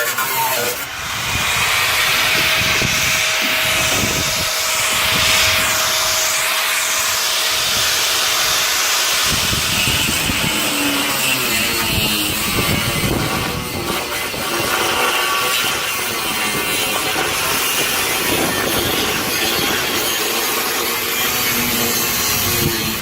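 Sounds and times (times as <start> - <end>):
power tool whine and hiss: 0.0 - 23.0.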